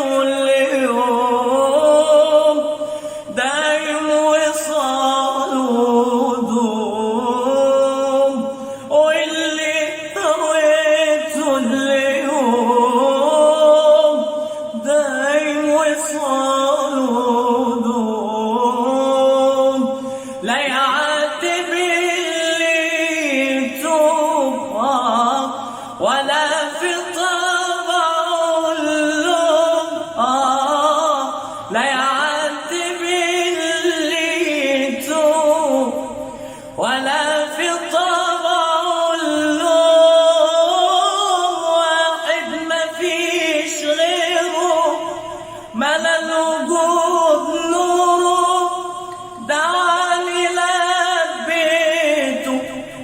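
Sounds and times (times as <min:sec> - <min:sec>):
men singing a cappella: 0:00.0 - 0:53.0.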